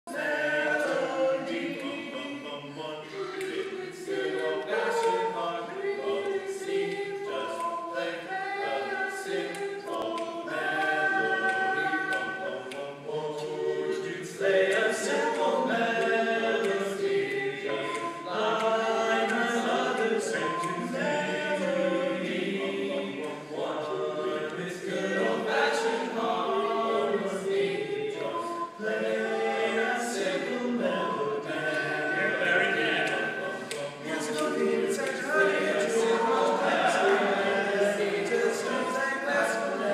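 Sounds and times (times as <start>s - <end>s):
male voices singing in harmony: 0.1s - 39.9s.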